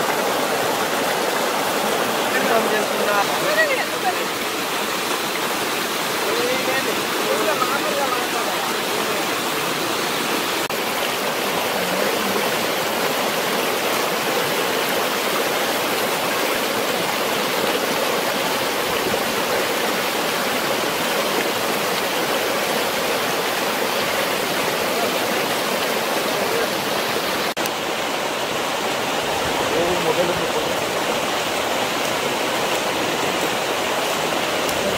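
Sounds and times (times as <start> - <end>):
stream running over rock: 0.0 - 34.9.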